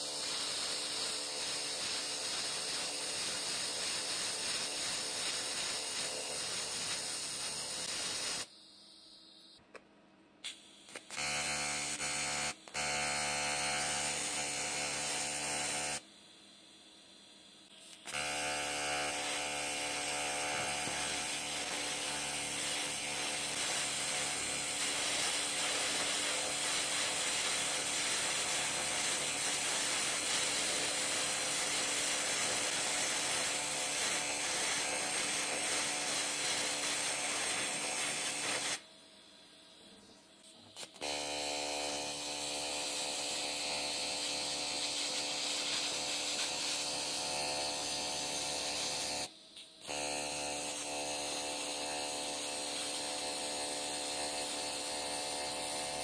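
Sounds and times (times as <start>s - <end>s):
welding arc buzzing: 0.0s - 9.6s, 10.4s - 38.9s, 39.5s - 56.0s
welding arc sputtering: 0.0s - 9.6s, 10.4s - 16.0s, 17.7s - 38.8s, 40.0s - 56.0s.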